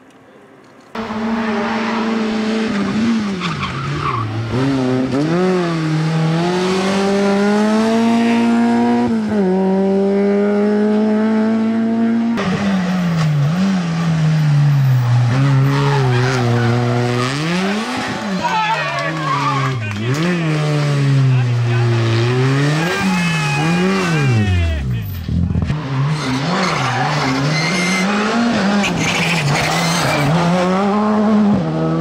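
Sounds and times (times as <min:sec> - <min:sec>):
tyres skidding: 0:00.2 - 0:09.7, 0:12.4 - 0:32.0
rally car engine accelerating: 0:00.9 - 0:32.0.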